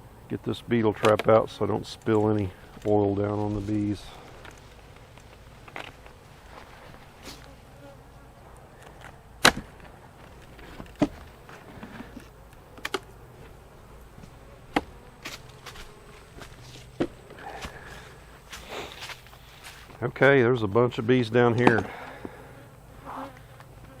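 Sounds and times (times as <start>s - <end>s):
honey bees buzzing: 0.0s - 20.0s, 21.2s - 24.0s.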